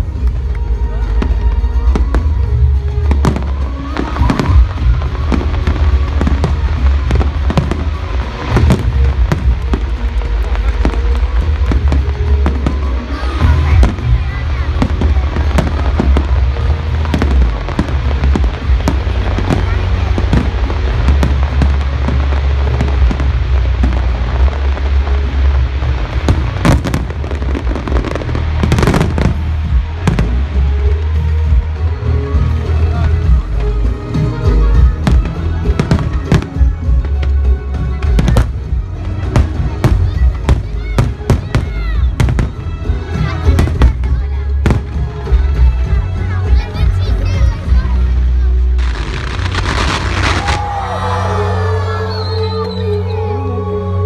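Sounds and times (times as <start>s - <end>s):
fireworks bangs and crackles: 0.0s - 51.2s
music with heavy bass: 0.0s - 54.0s.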